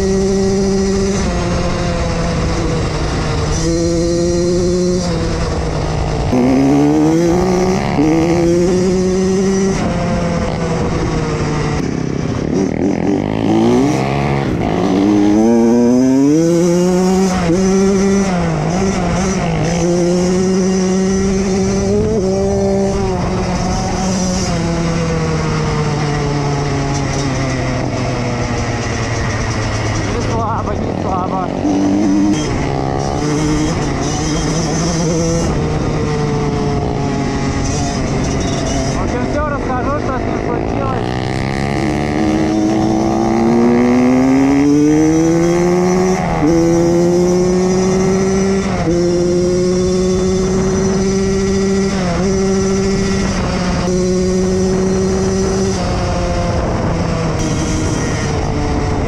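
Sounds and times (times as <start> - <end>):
pit bike engine revving: 0.0 - 59.0.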